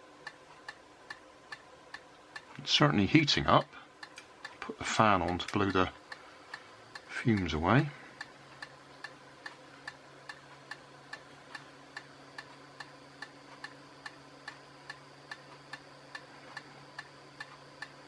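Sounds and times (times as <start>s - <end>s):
fan humming: 0.0s - 18.0s
light regular ticking: 0.2s - 18.0s.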